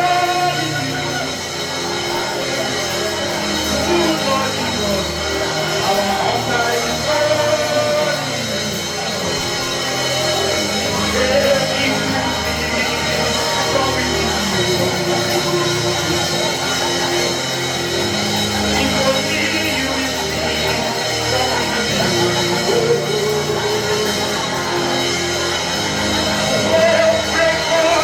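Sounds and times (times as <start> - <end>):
bass: 0.0 - 28.0
drums: 0.0 - 28.0
keyboard chords: 0.0 - 28.0.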